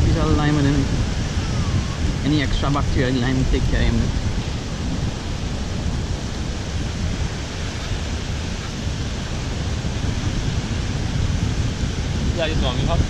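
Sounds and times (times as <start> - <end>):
surf washing on beach: 0.0 - 13.0
wind rumbling on microphone: 0.0 - 13.0.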